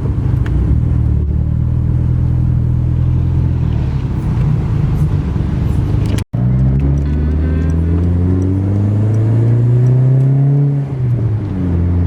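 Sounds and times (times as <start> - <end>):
car engine running while driving: 0.0 - 12.0.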